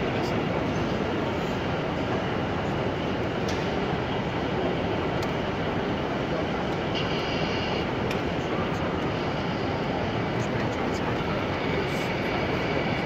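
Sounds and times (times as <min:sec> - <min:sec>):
din of busy exhibition hall: 0:00.0 - 0:13.0
model train running on track: 0:00.0 - 0:13.0.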